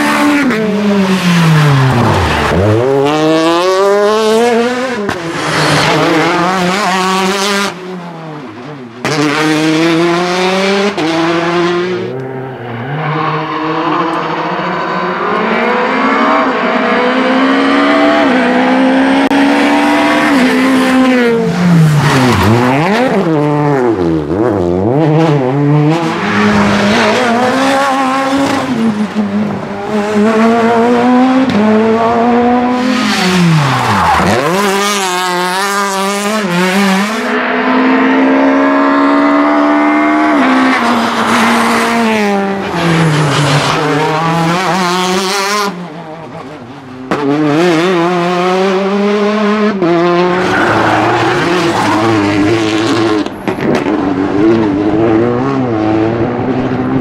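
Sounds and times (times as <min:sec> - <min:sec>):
rally cars revving hard: 0:00.0 - 0:57.0.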